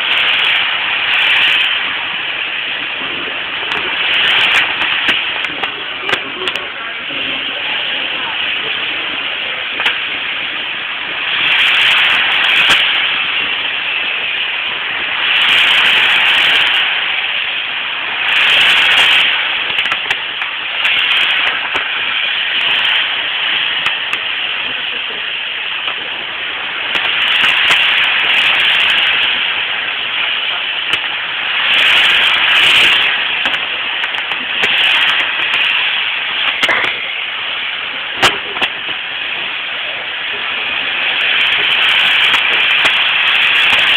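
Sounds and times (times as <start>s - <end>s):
fireworks crackling: 0.0s - 43.9s
fireworks hissing: 0.0s - 43.9s.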